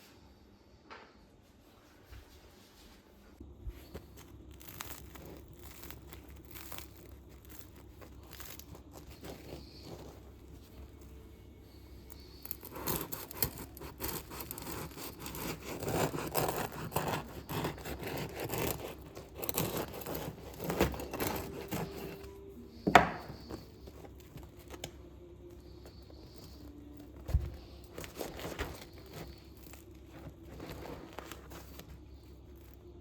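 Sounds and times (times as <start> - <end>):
rustling and scraping handling noises: 1.5 - 33.0.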